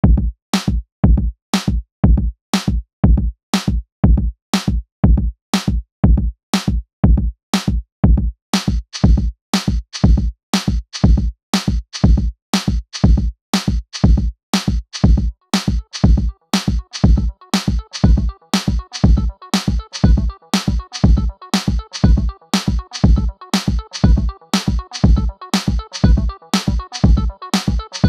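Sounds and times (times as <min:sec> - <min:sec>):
electronic drum beat: 0:00.0 - 0:28.0.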